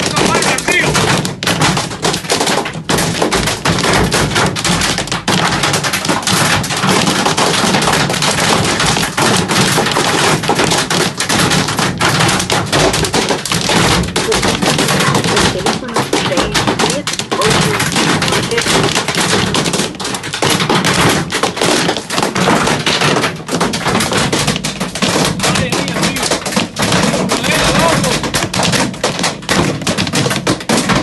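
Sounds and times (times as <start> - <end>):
hailstones hitting metal van: 0.0 - 31.0.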